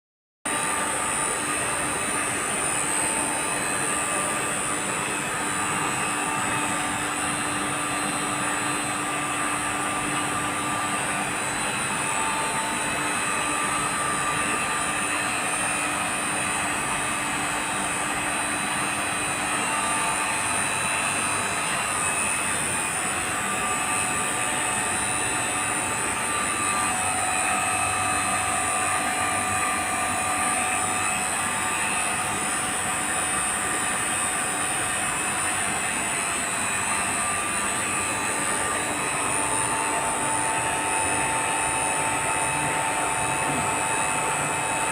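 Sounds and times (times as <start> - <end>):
vacuum pump running: 0.5 - 44.9.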